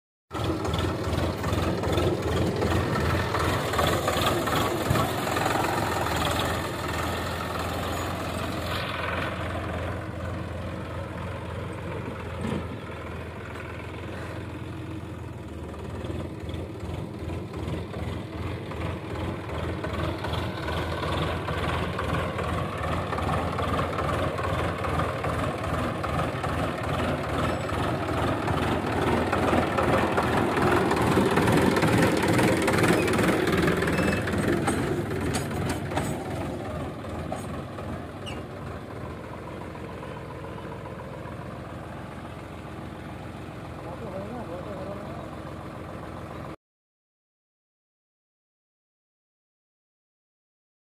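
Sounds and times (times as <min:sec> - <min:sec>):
tractor diesel engine throbbing: 0:00.3 - 0:46.6.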